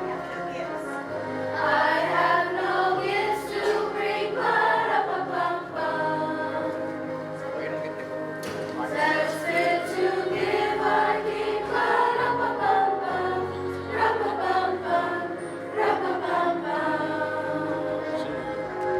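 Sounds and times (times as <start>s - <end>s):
choir singing: 0.0s - 18.9s.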